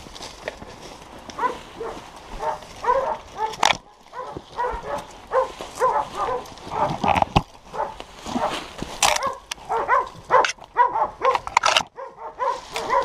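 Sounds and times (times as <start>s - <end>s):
dogs barking: 1.3s - 13.0s.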